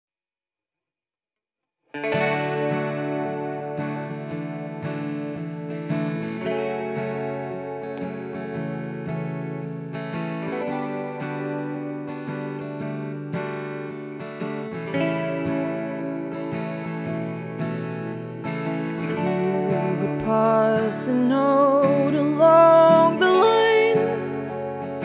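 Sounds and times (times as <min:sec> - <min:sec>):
acoustic guitar strumming: 0:02.0 - 0:25.0.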